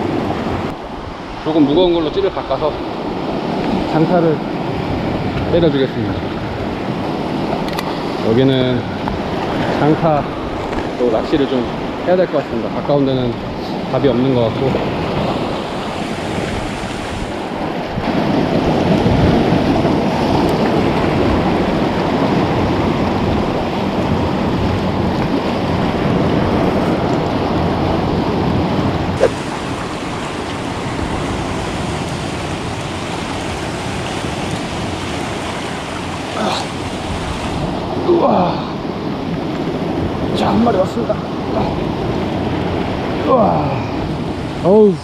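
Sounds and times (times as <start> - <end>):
sea waves washing around rocks: 0.0 - 45.0.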